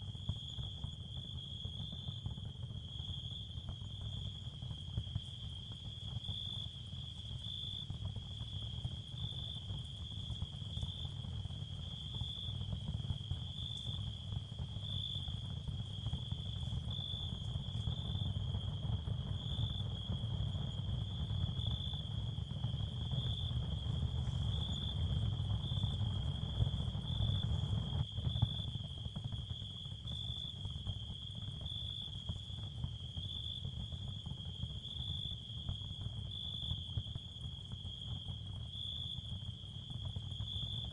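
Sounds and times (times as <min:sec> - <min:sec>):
low continuous rumble: 0:00.0 - 0:40.9.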